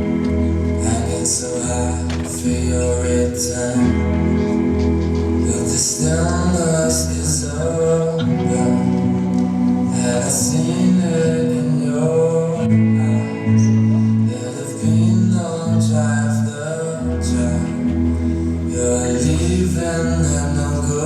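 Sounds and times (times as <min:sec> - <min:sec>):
person singing: 0:00.0 - 0:21.0
plucked guitar: 0:00.0 - 0:21.0
sustained bass notes: 0:00.0 - 0:21.0.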